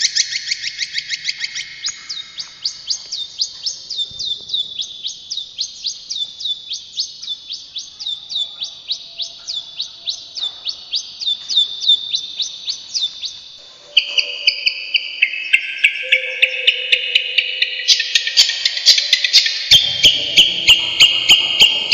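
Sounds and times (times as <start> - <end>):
bird singing high whistles: 0.0 - 21.9.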